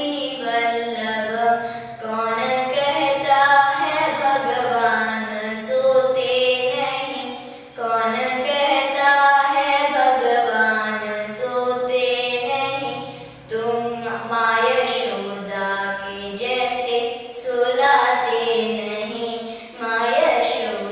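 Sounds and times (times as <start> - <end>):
girl singing with gliding ornaments: 0.0 - 20.9.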